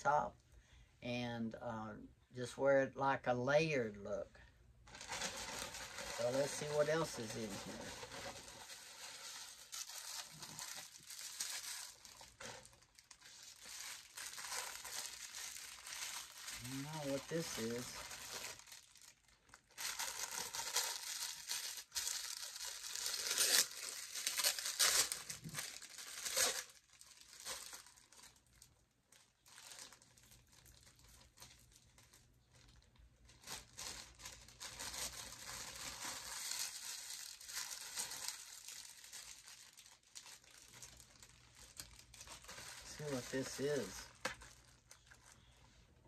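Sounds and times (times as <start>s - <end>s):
plastic packaging crinkling: 4.8s - 46.0s.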